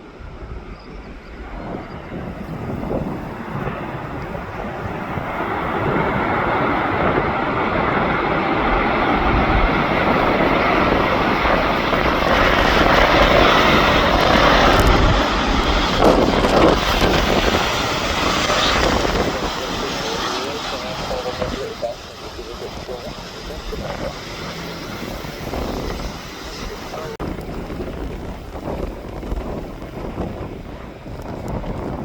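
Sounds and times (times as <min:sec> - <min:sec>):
aircraft engines passing: 0:00.0 - 0:32.0
wind buffeting microphone: 0:00.0 - 0:32.0.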